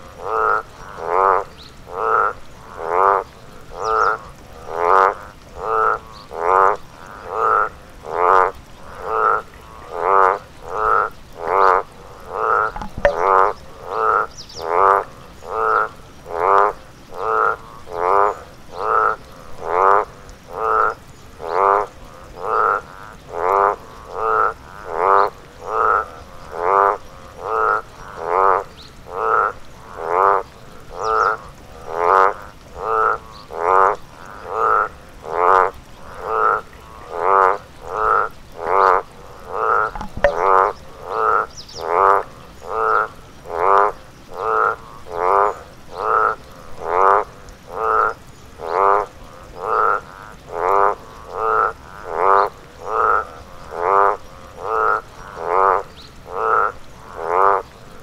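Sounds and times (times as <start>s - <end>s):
frog croaking: 0.0s - 58.0s.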